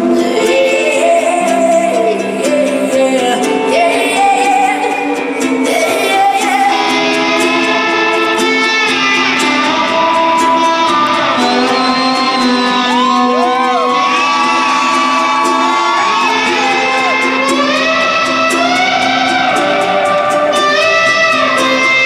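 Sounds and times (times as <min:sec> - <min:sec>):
live band with guitar: 0:00.0 - 0:22.0
woman singing: 0:00.0 - 0:22.0.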